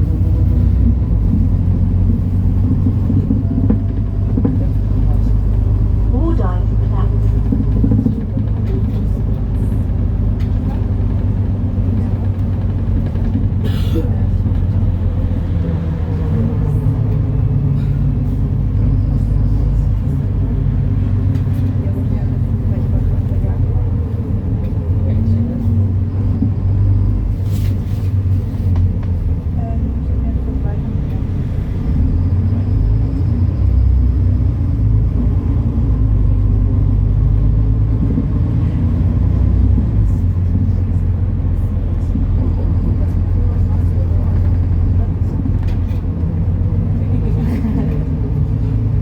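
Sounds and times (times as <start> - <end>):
bus diesel engine droning: 0.0 - 49.0.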